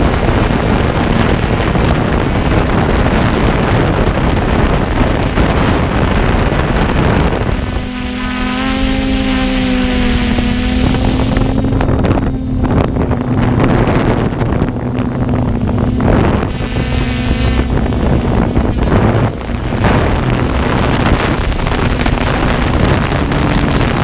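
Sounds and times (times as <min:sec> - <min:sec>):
drone propellers humming: 0:00.0 - 0:24.0
wind rushing over microphone: 0:00.0 - 0:24.0.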